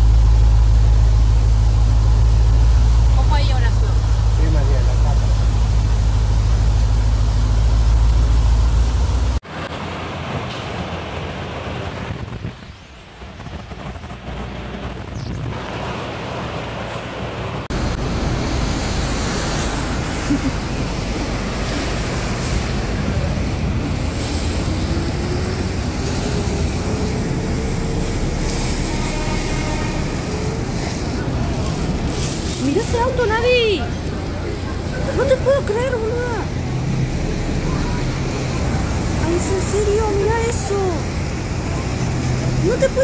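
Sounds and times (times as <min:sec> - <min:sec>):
tyres splashing water: 0:00.0 - 0:43.0
vehicle engine noise: 0:00.0 - 0:43.0.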